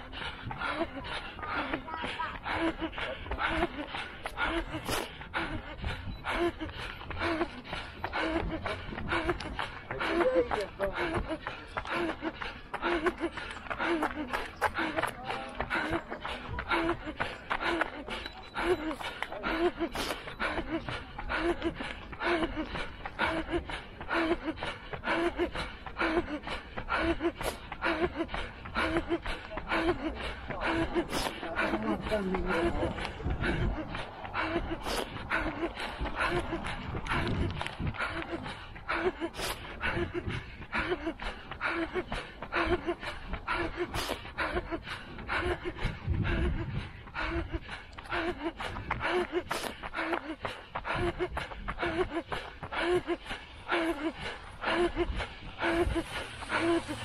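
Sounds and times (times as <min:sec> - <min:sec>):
footsteps on pavement: 0:00.0 - 0:57.0
runner gasping breaths: 0:00.0 - 0:57.0.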